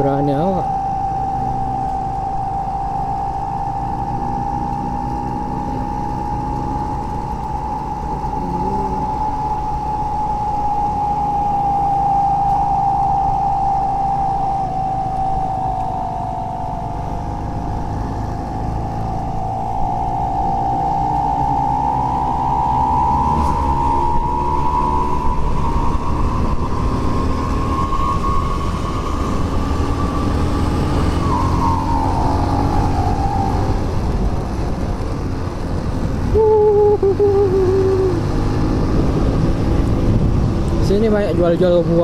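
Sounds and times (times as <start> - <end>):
high whistling tone: 0.0 - 35.0, 36.3 - 38.4
motorcycle engine and road rumble: 0.0 - 42.0.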